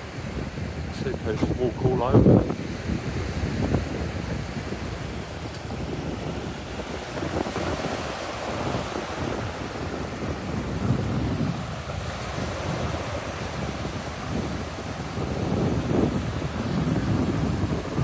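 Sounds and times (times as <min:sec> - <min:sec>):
small waves breaking: 0:00.0 - 0:18.0
wind rumbling on microphone: 0:00.0 - 0:18.0.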